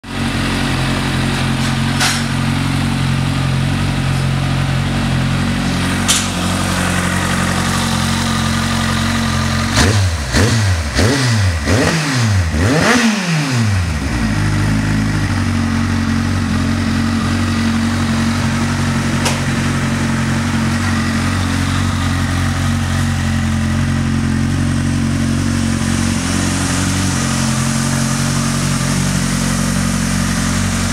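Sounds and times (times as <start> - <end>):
motorcycle engine idling: 0.0 - 11.8, 13.6 - 30.9
engine revving: 5.3 - 30.9.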